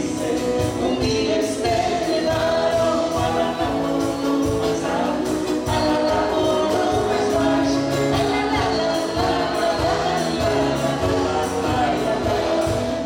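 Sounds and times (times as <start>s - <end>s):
accordion: 0.0s - 13.0s
acoustic guitar: 0.0s - 13.0s
drums: 0.0s - 13.0s
woman singing: 0.0s - 13.0s.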